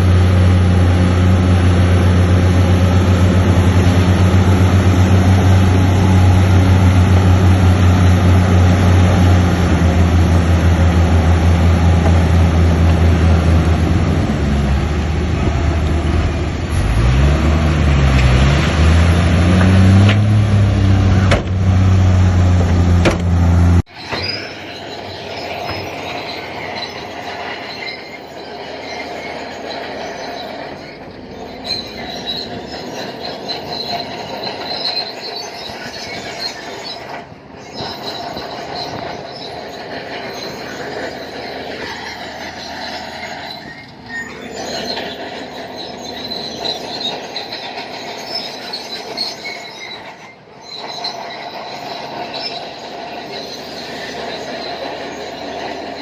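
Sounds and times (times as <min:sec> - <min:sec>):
bulldozer diesel engine running: 0:00.0 - 0:56.0
metal tracks squealing and clattering: 0:00.0 - 0:56.0.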